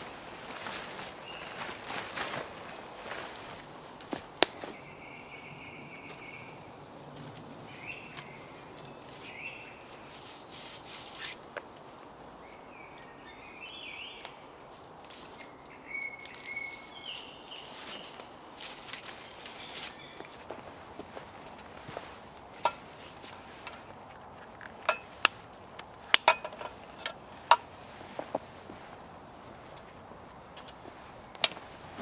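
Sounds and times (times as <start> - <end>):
birds chirping: 0.0 - 3.7, 4.6 - 6.9, 7.6 - 10.3, 11.1 - 24.0, 24.6 - 29.4.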